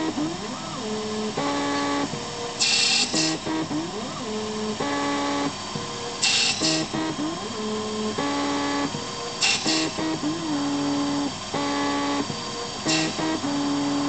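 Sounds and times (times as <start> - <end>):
stepper motors singing tones: 0.0 - 2.1, 2.8 - 5.7, 6.3 - 14.0.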